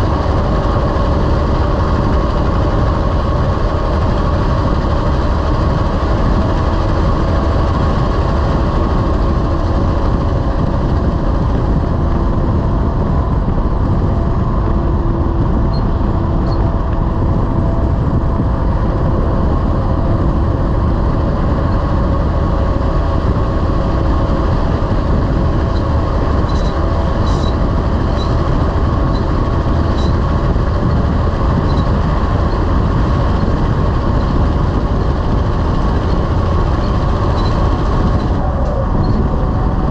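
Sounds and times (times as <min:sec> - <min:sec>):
diesel truck engine running: 0:00.0 - 0:39.9
road noise rumble: 0:00.0 - 0:39.9.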